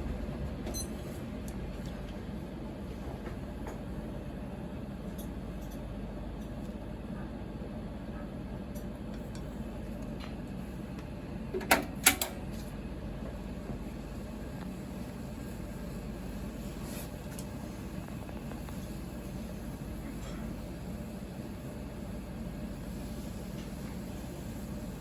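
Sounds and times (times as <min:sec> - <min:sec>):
room hum: 0:00.0 - 0:25.0.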